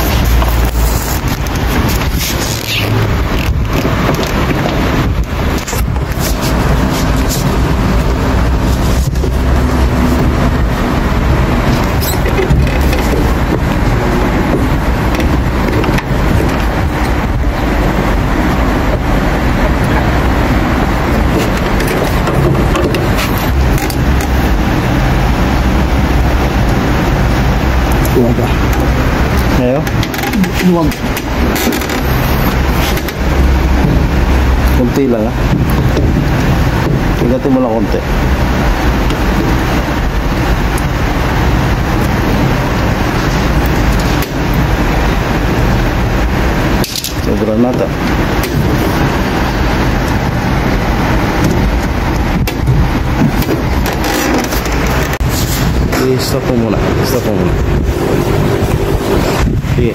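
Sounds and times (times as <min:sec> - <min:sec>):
low rumbling background noise: 0:00.0 - 0:59.9
washing machine rushing noise: 0:00.0 - 0:59.9.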